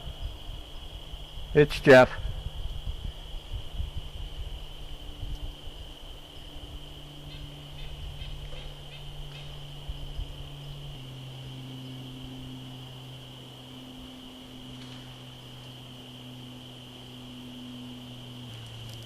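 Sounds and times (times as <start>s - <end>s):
insect chorus high drone: 0.0s - 19.0s
low steady hum: 0.0s - 19.0s.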